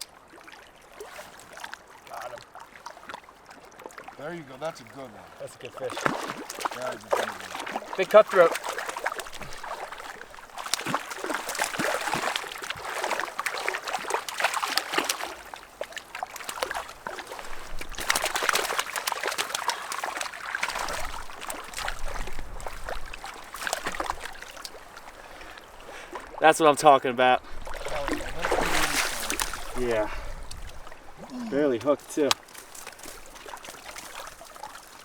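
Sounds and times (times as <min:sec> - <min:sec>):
water splashing and trickling: 0:00.0 - 0:35.0.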